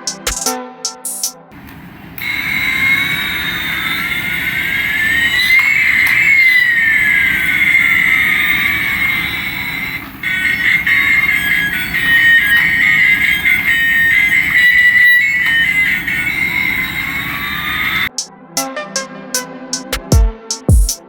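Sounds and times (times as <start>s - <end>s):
synthesized toy engine sound: 1.1s - 18.2s.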